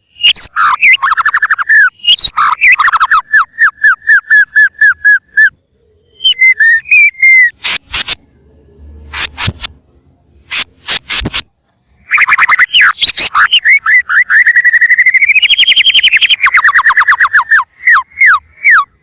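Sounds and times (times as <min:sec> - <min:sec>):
bird singing whistles and trills: 0:00.0 - 0:11.4, 0:12.0 - 0:19.0.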